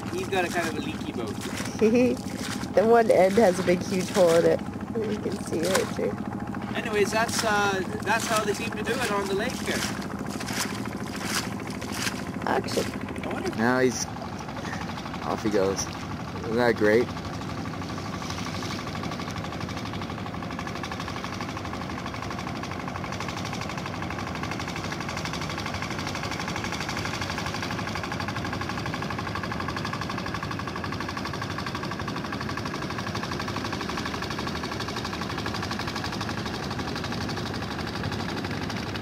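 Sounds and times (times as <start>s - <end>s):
motorboat engine idling: 0.0s - 39.0s.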